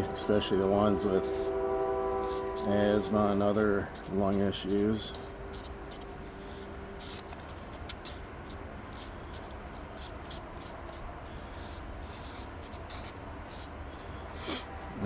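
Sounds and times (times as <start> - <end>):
stick scraping epoxy: 0.0 - 14.8.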